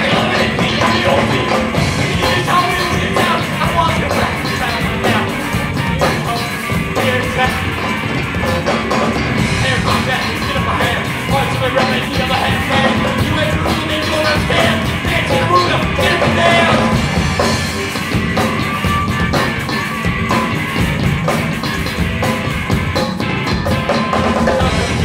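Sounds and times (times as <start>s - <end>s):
bass guitar: 0.0s - 25.0s
drum kit: 0.0s - 25.0s
electric guitars: 0.0s - 25.0s.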